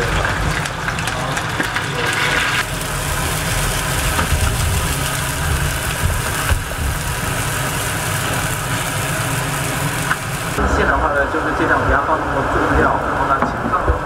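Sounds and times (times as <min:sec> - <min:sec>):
water sizzling in hot wok: 0:00.0 - 0:11.6
liquid boiling: 0:00.0 - 0:14.0.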